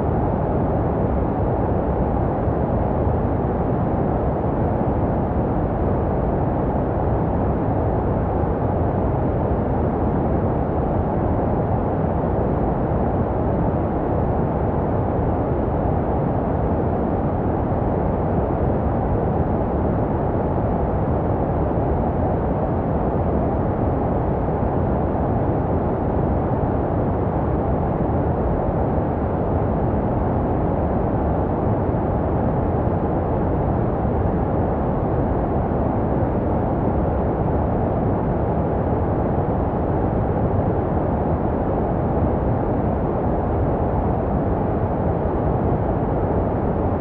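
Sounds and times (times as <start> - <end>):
muffled deep white noise: 0.0 - 47.0.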